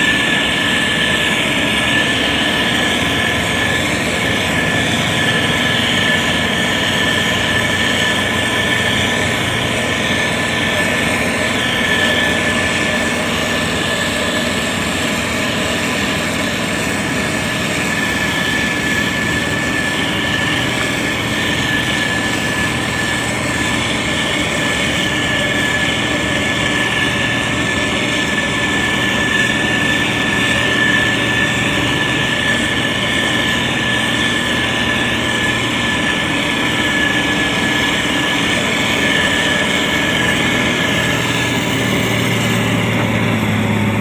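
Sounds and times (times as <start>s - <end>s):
grader diesel engine running: 0.0s - 44.0s
thin high whine: 0.0s - 44.0s.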